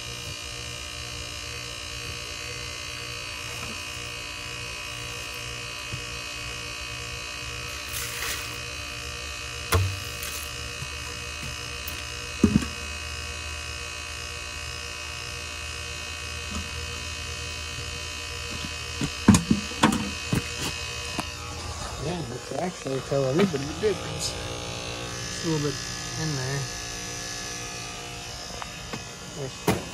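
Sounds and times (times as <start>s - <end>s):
machine buzzing with high whine: 0.0s - 29.9s.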